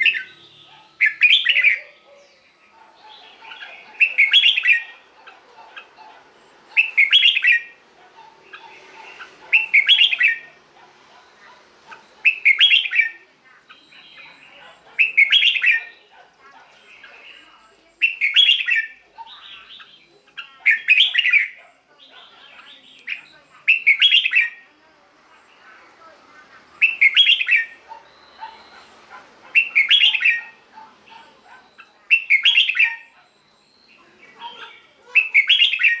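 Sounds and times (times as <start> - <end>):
bulbul warbled song phrases: 0.0 - 36.0
quiet bird chirps: 0.0 - 36.0.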